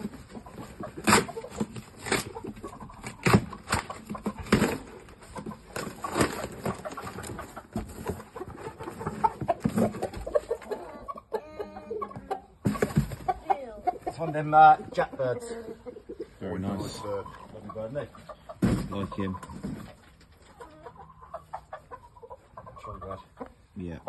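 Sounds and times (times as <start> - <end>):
fowl clucking: 0.0 - 24.0.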